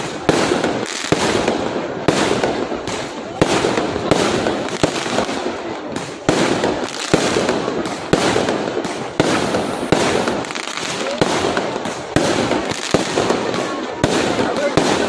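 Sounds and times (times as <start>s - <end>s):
dense firework crackling: 0.0s - 15.0s
firework bangs: 0.0s - 15.0s.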